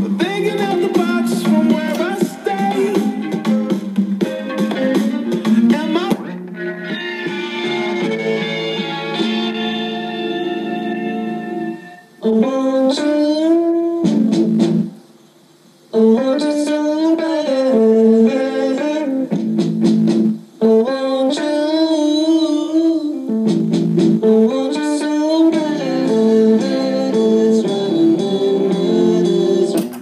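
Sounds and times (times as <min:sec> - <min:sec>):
guitar music with bending melody: 0:00.0 - 0:12.7, 0:17.7 - 0:30.0.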